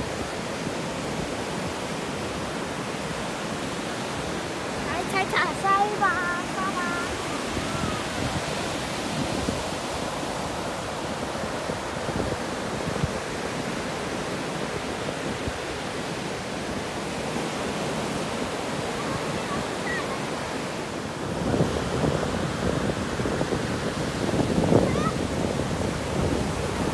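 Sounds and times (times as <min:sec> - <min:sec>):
surf breaking on beach: 0:00.0 - 0:26.9.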